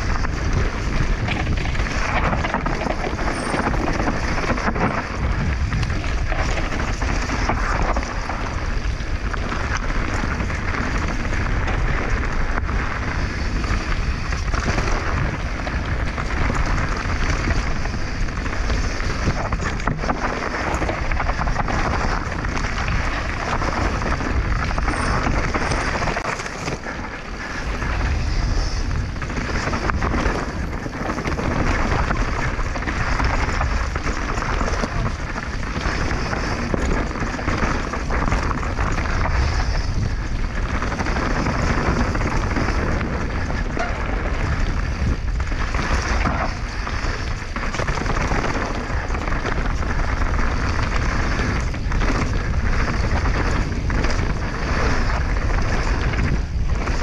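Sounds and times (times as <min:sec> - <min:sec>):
bike tyres crunching on gravel: 0:00.0 - 0:57.0
wind buffeting microphone: 0:00.0 - 0:57.0.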